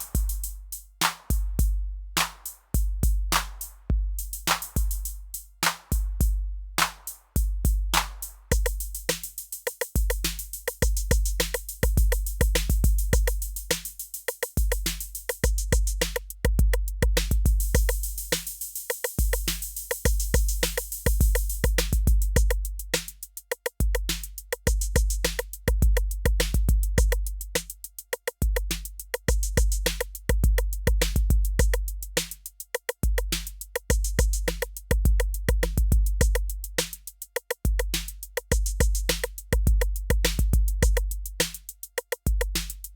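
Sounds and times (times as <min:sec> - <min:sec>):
drum machine groove: 0:00.0 - 0:42.9.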